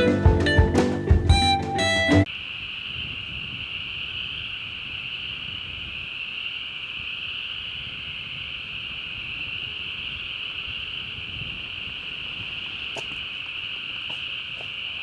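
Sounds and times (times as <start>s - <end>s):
low rumble of wind: 2.2s - 15.0s
high-pitched insect chorus: 2.3s - 15.0s.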